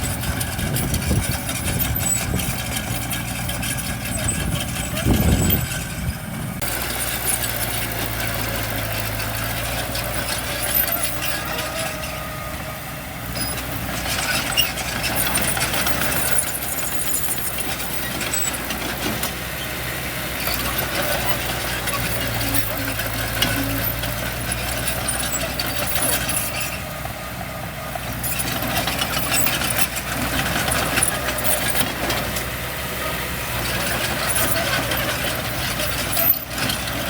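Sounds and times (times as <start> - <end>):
heavy machinery diesel engines: 0.0 - 37.0.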